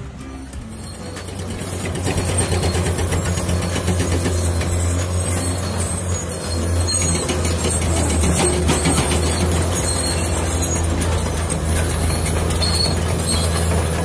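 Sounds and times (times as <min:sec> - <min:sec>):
heavy machinery diesel engine: 0:00.0 - 0:14.0.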